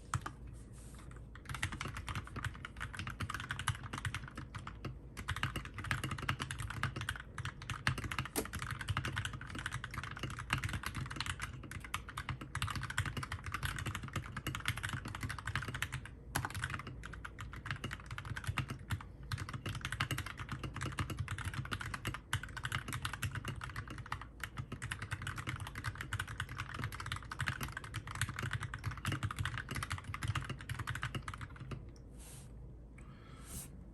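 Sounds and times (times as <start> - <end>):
fast mechanical keyboard typing: 1.3 - 31.8.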